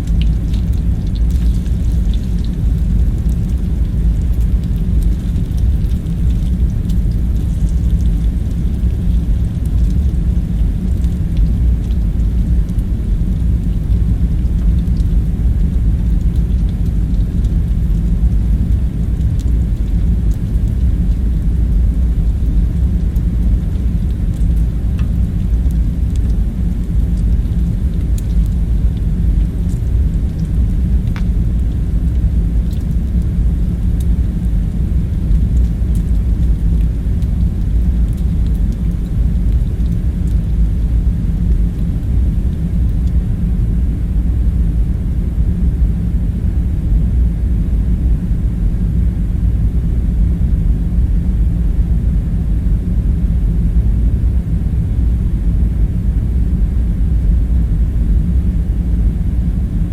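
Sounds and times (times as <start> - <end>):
low rumble with hum: 0.0 - 59.9.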